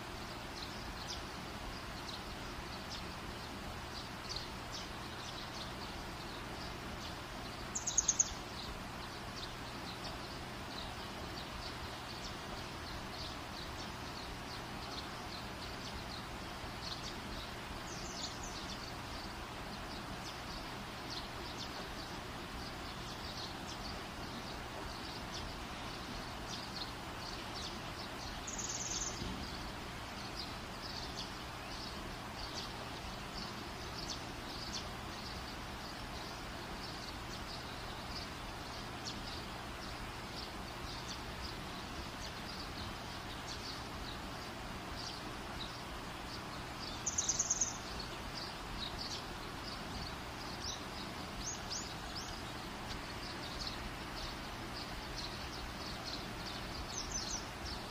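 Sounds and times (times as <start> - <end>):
steady background hiss: 0.0 - 57.9
bird chirping: 0.2 - 57.9.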